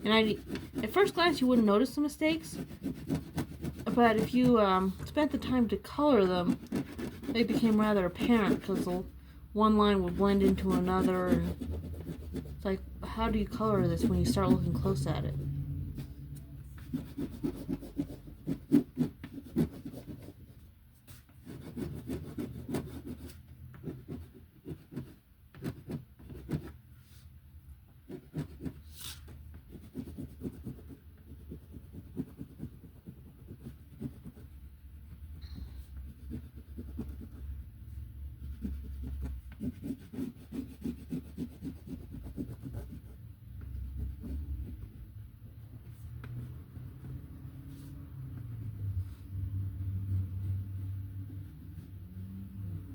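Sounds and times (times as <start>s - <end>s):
colouring tool shading on paper: 0.0s - 27.2s, 28.0s - 45.0s, 45.8s - 52.7s.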